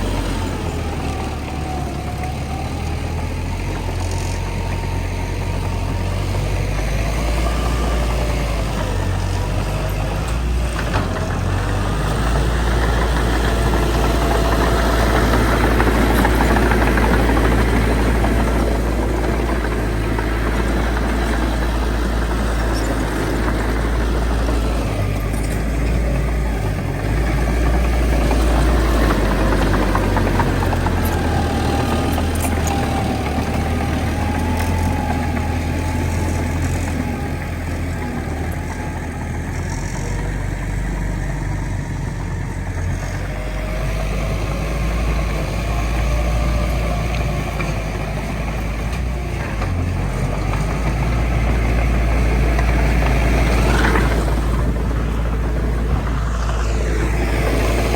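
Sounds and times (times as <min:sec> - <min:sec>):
heavy diesel machinery rumbling: 0:00.0 - 0:57.9.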